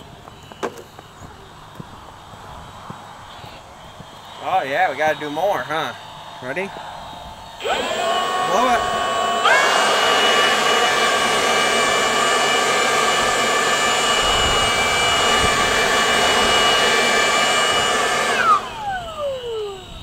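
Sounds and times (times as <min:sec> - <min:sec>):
leaf blower whining: 0:00.0 - 0:20.0.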